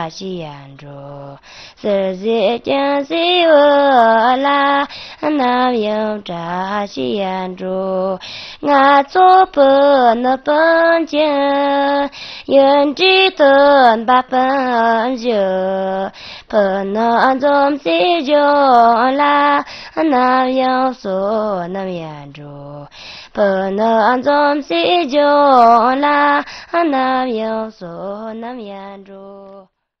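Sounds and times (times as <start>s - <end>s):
high voice singing unaccompanied: 0.0s - 29.7s.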